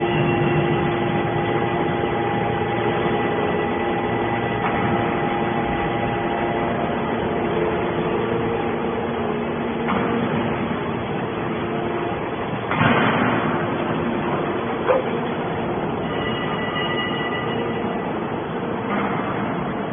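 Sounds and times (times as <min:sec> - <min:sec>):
hydraulic baler humming: 0:00.0 - 0:19.9.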